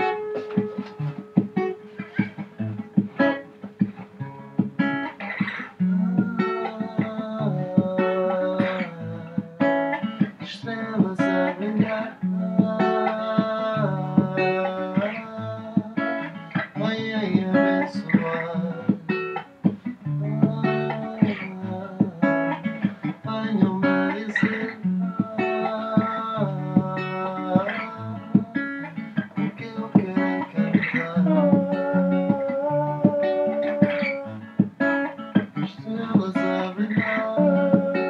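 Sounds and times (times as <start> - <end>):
acoustic guitar playing: 0.0 - 38.0.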